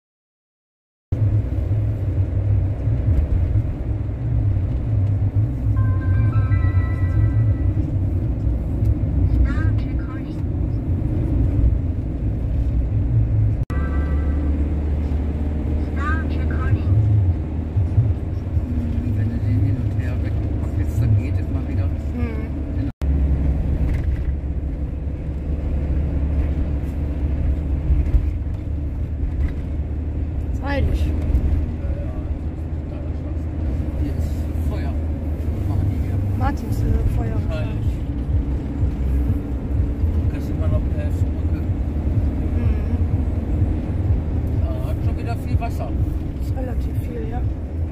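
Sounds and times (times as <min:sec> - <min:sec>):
camper van driving on road: 0:01.1 - 0:47.9.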